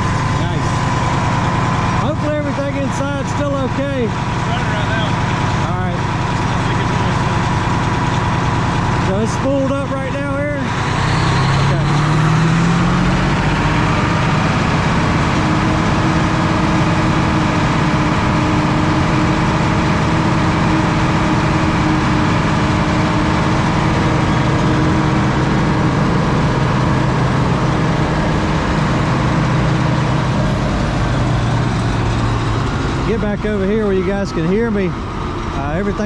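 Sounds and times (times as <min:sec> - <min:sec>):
wood grinder drone and whine: 0:00.0 - 0:36.0.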